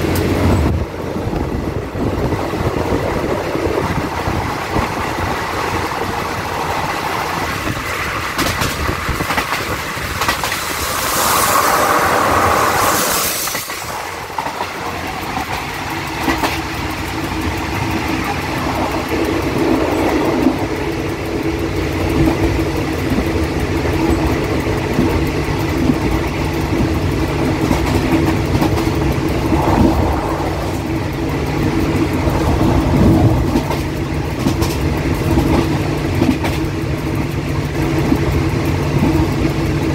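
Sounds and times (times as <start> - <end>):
diesel locomotive engine drone: 0.0 - 39.9
train wheels on rails: 0.0 - 39.9
wind rushing past train: 0.0 - 39.9.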